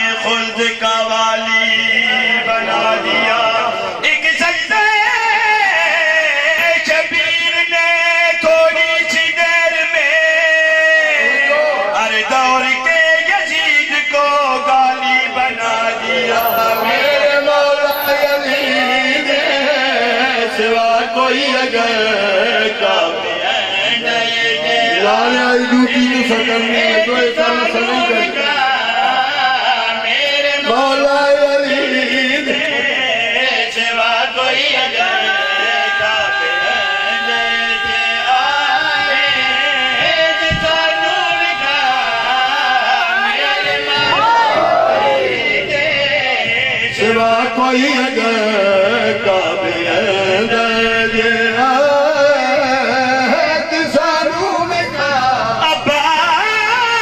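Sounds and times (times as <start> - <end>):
man chanting devotional verse: 0.0 - 44.3, 44.9 - 57.0.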